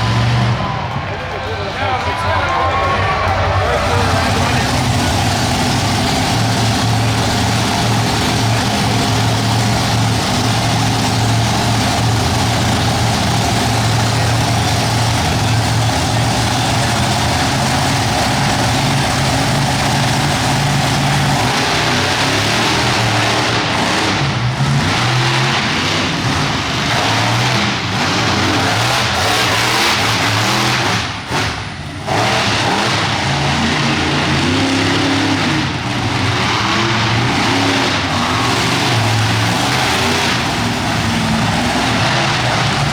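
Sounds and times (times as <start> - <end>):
monster truck engine revving: 0.0 - 42.9.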